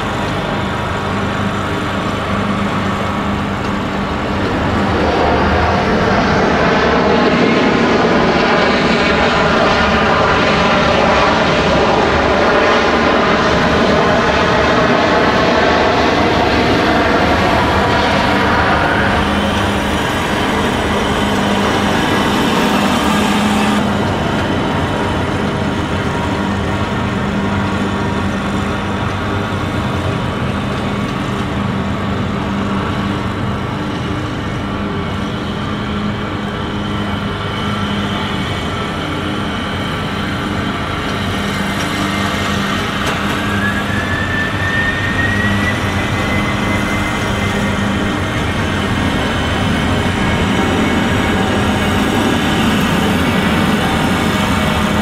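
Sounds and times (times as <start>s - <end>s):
jet engines roaring at takeoff: 0.0s - 55.0s.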